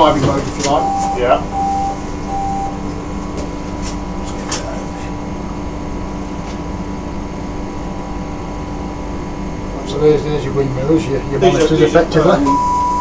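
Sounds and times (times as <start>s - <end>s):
electrical and ventilation hum: 0.0s - 13.0s.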